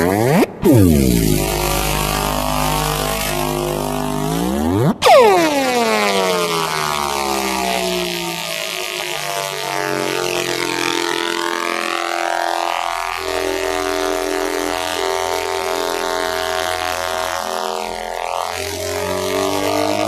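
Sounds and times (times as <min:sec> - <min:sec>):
deep electronic hum: 0:00.0 - 0:20.0
synthesized laser tone sweeping: 0:00.0 - 0:20.0.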